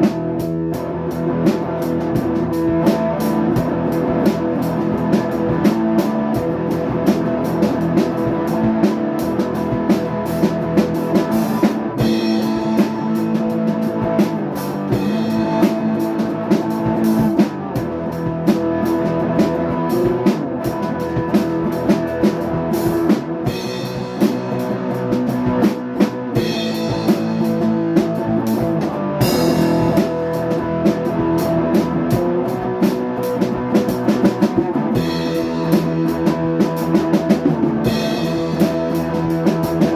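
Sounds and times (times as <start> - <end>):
drum kit beat: 0.0 - 39.9
sustained guitar chords: 0.0 - 39.9.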